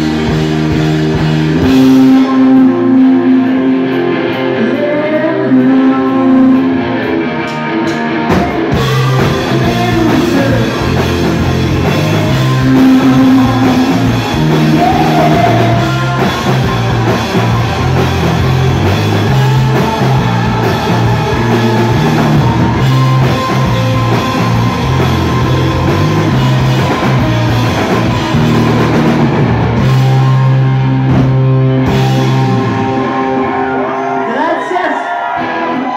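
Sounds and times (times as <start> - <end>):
drum kit: 0.0 - 4.6, 7.0 - 34.1
bass guitar: 0.0 - 35.9
distorted electric guitar: 0.0 - 35.9.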